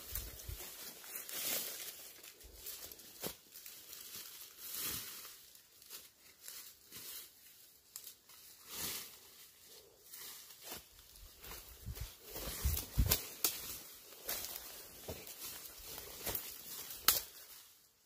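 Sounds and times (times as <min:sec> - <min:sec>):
brushing past undergrowth: 0:00.0 - 0:18.0
footsteps crunching through dry leaves: 0:00.0 - 0:18.0.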